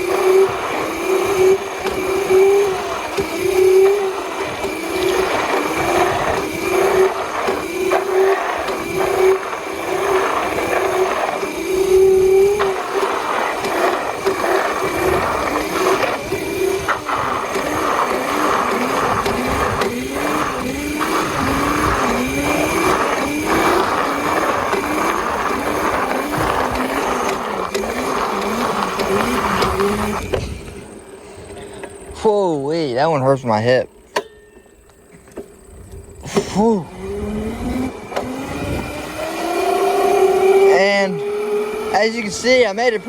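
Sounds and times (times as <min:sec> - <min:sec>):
electric motor whining: 0:00.0 - 0:32.2, 0:35.4 - 0:43.0
chain and tyre noise: 0:00.0 - 0:43.0.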